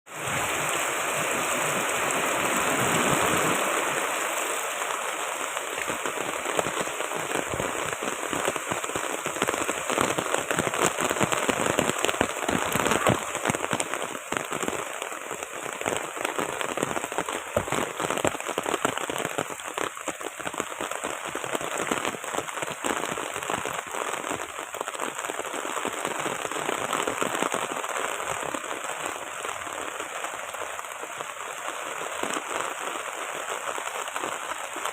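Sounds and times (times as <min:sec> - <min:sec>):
heavy rain on hard surface: 0:00.0 - 0:34.9.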